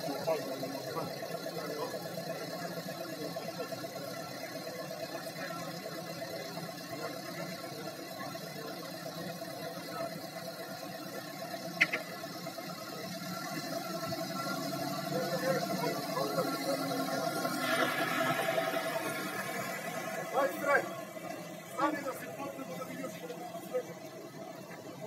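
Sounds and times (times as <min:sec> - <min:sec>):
engine hum: 0:00.0 - 0:25.0.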